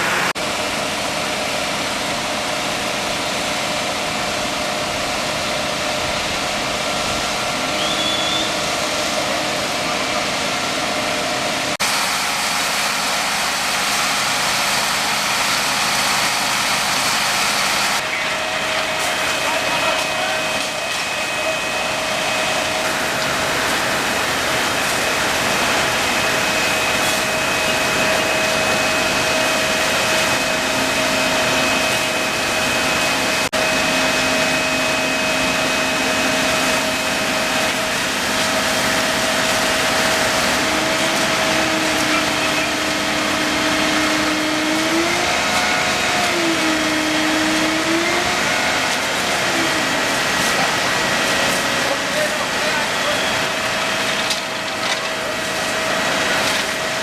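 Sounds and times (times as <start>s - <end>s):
steady engine hum: 0.0s - 57.0s.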